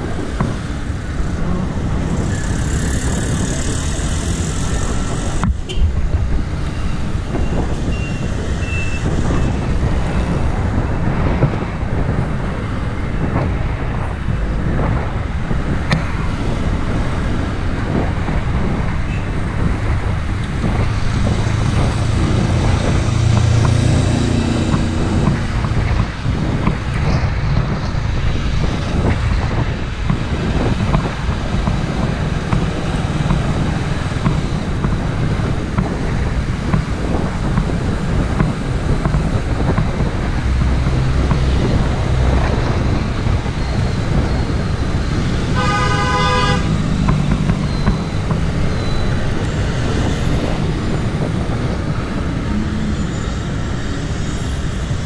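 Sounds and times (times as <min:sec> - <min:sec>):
passing vehicle engine hum: 0:00.0 - 0:55.0
road traffic: 0:00.0 - 0:55.0
wind noise on microphone: 0:00.0 - 0:55.0.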